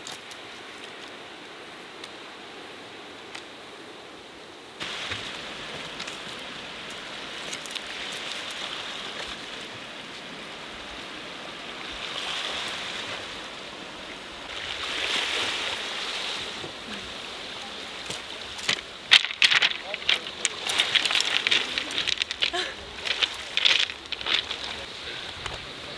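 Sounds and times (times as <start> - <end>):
small waves washing onto shore: 0.0 - 25.9.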